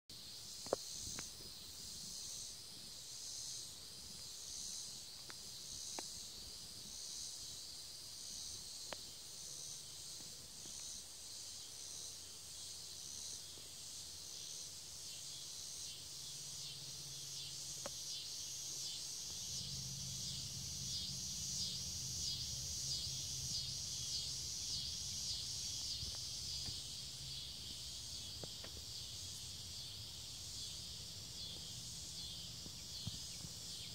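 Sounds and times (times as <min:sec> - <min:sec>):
insects chirping in pulses: 0:00.1 - 0:33.9.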